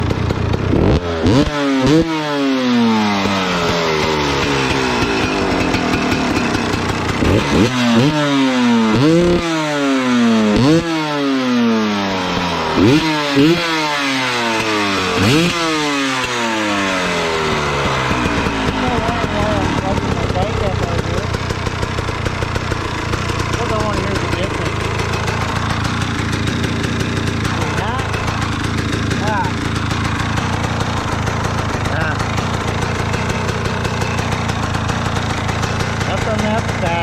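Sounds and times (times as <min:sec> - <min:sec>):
dirt bike engine throttle blips: 0:00.0 - 0:37.0.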